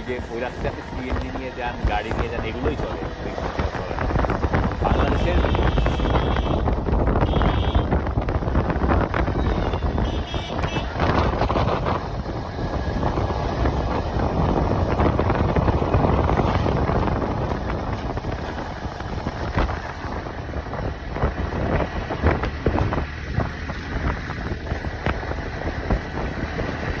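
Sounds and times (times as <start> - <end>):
moving vehicle rumble: 0.0 - 27.0
wind buffeting microphone: 0.0 - 27.0.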